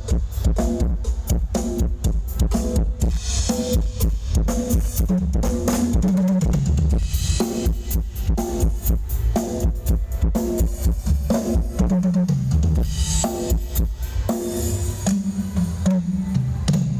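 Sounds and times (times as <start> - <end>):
dance band music through loudspeakers: 0.0 - 16.9
drum kit beat: 0.0 - 16.9.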